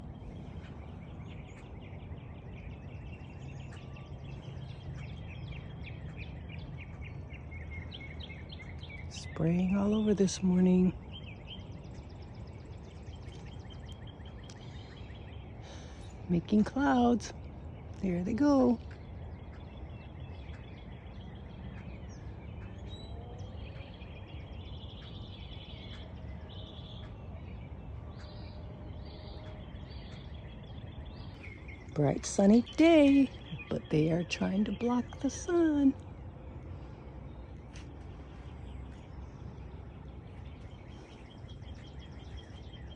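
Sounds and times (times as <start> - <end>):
small birds chirping: 0.0 - 42.9
steady low rumble: 0.0 - 42.9.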